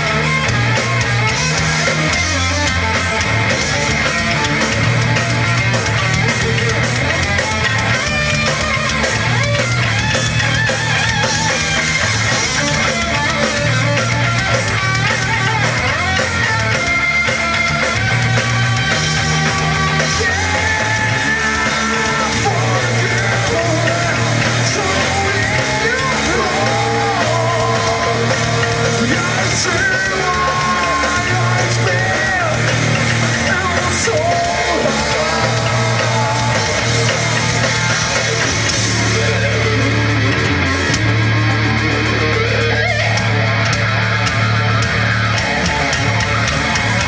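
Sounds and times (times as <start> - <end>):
bass guitar line: 0.0 - 47.0
electric guitar riffs: 0.0 - 47.0
steady drum beat: 0.0 - 47.0.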